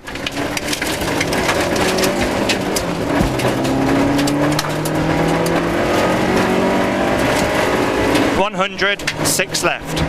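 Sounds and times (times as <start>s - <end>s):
car engine at speed: 0.0s - 10.0s
gravel striking car underside: 0.0s - 10.0s.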